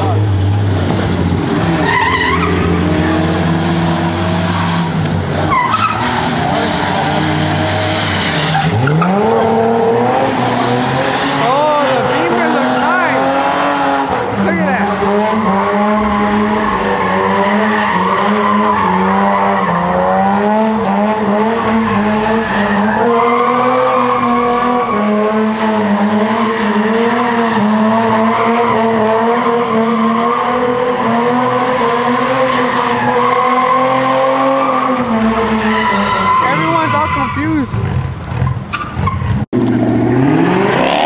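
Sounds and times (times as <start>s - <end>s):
car engine at high revs: 0.0s - 41.0s
tire squeal: 0.0s - 41.0s.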